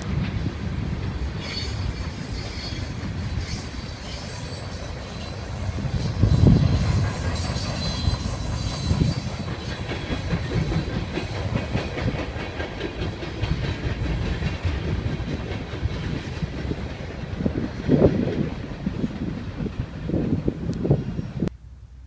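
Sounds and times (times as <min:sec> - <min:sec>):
wheels clacking over rail joints: 0:00.0 - 0:21.0
freight train rumbling past: 0:00.0 - 0:22.0.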